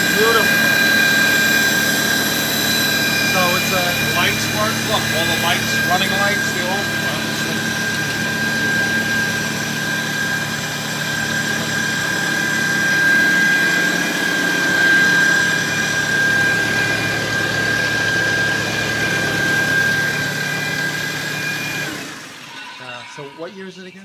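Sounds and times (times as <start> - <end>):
tractor engine running: 0.0 - 20.9
high whine: 0.0 - 23.9.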